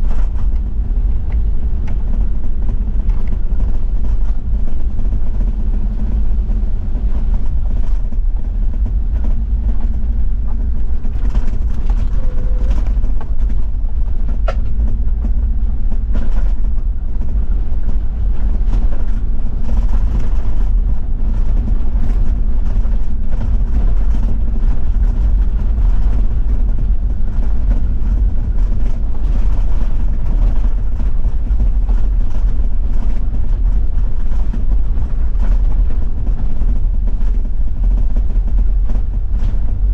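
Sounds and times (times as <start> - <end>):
diesel engine and road rumble: 0.0 - 39.9.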